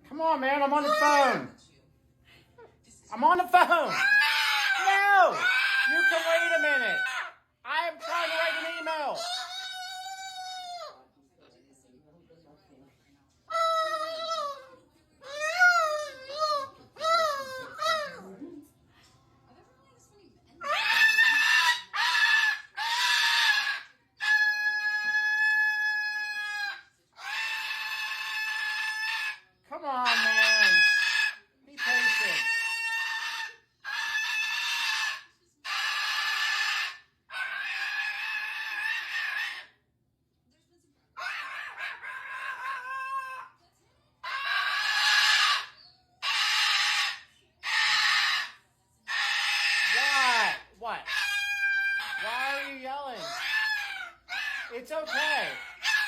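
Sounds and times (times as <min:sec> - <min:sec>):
macaw screaming: 0:00.7 - 0:01.5, 0:03.2 - 0:11.0, 0:13.5 - 0:18.3, 0:20.6 - 0:39.8, 0:41.2 - 0:43.6, 0:44.2 - 0:56.0.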